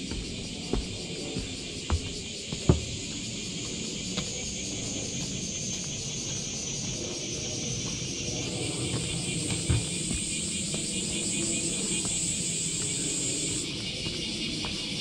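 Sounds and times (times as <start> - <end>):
insects whining: 0.0 - 15.0.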